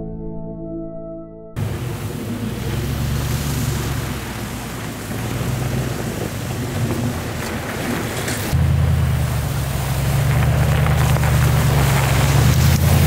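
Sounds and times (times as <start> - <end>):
suv engine hum: 1.6 - 13.0.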